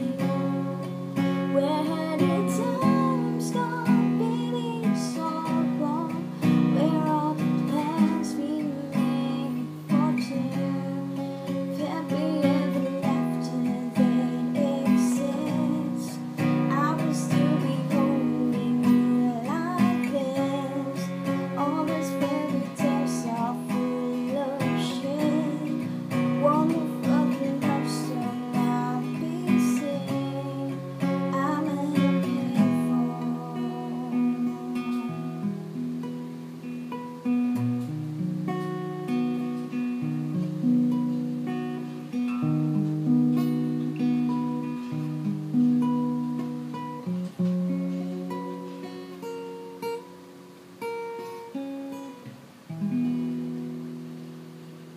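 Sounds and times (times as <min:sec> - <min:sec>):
acoustic guitar strumming: 0:00.0 - 0:54.9.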